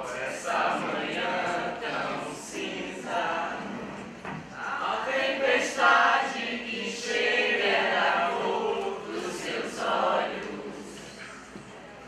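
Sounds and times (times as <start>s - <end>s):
group of voices singing: 0.0s - 11.2s.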